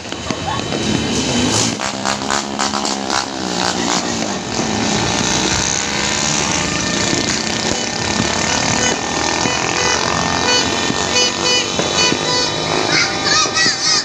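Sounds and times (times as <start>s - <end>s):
firecracker crackles: 0.0s - 14.0s
small engine running: 0.0s - 14.0s.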